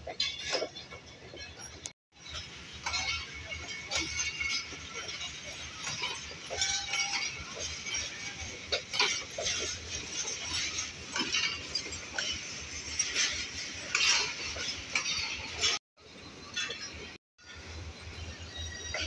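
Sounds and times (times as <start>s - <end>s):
metallic clinks of wheels: 0.0s - 15.8s
train coaches rolling past: 0.0s - 19.0s
wheels squealing on rails: 0.0s - 19.0s.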